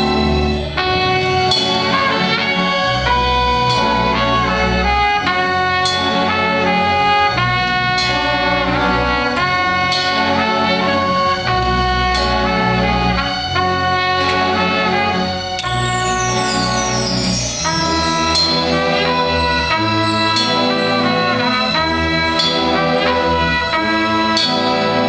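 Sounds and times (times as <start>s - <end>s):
held low bass notes: 0.0s - 24.4s
orchestra playing slow chords: 0.0s - 25.0s.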